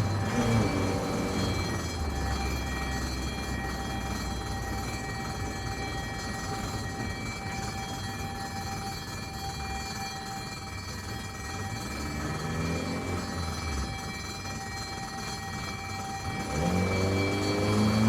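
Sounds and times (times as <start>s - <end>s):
engine running: 0.0s - 9.3s, 10.6s - 18.0s.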